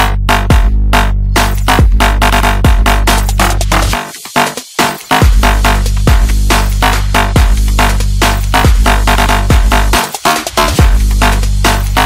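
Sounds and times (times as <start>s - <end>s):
deep kick drum: 0.0s - 4.0s, 5.2s - 12.0s
electronic hip-hop beat: 0.0s - 12.0s.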